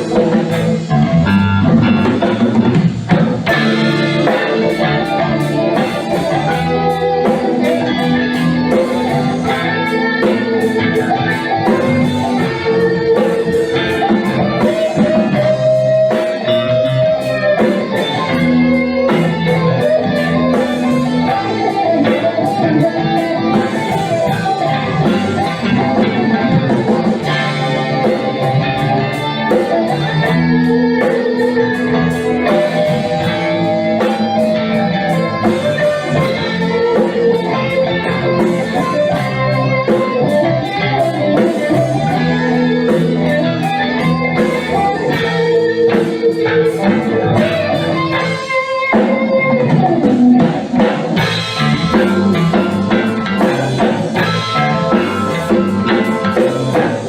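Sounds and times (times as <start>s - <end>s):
rock band playing instrumental: 0.0s - 57.0s.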